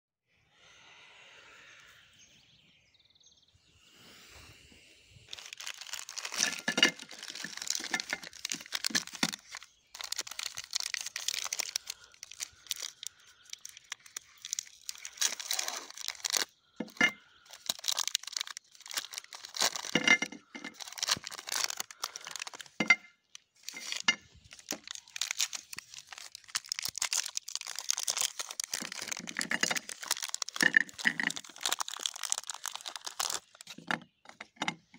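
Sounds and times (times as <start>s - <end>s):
wrappers tearing and crinkling: 5.3s - 34.0s.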